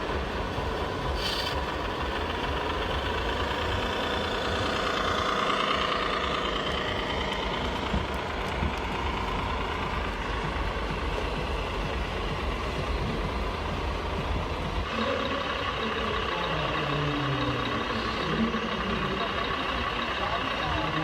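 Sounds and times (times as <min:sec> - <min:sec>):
model truck engine idling: 0:00.0 - 0:21.0.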